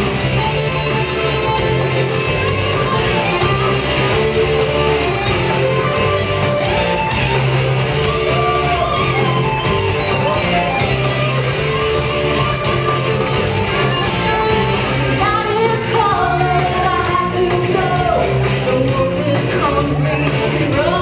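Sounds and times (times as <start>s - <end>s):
hard rock music: 0.0s - 21.0s.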